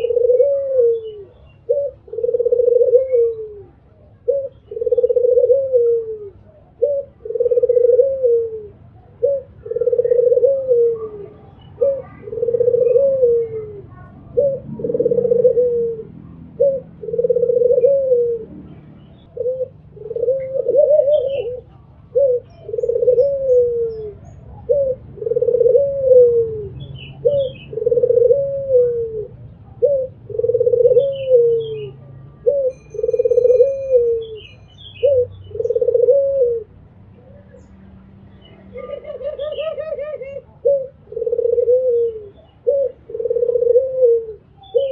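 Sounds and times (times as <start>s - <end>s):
dove cooing: 0.0s - 37.7s, 38.4s - 44.9s.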